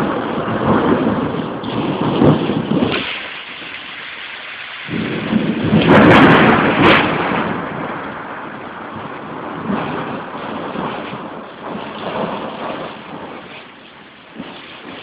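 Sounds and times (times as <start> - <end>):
steady rain: 0.0 - 15.0
thunder rolling: 0.0 - 15.0.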